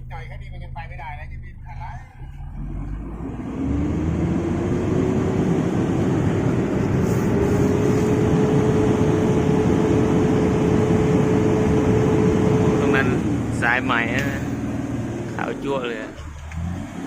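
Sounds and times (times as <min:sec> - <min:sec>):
engine whine: 0:00.0 - 0:17.0
truck diesel engine revving: 0:00.0 - 0:17.0.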